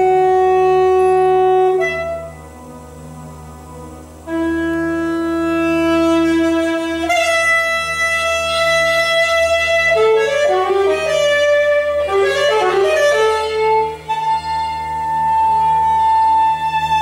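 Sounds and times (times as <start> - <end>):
saxophone playing: 0.0 - 17.0.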